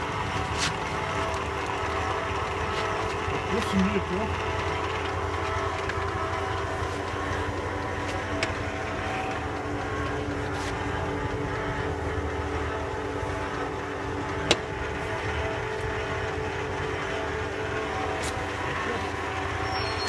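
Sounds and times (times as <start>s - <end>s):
lathe humming and whining: 0.0s - 20.0s.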